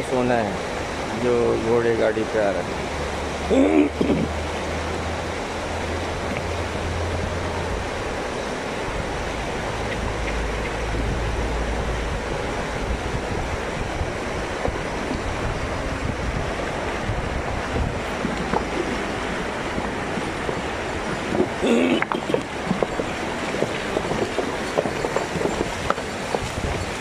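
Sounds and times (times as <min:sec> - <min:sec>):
horses splashing through water: 0:00.0 - 0:27.0
river rushing over stones: 0:00.0 - 0:27.0
wind buffeting microphone: 0:00.0 - 0:27.0.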